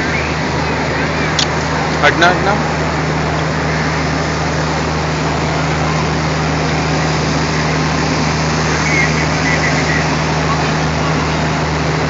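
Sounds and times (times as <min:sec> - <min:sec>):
diesel locomotive engine droning: 0:00.0 - 0:12.0.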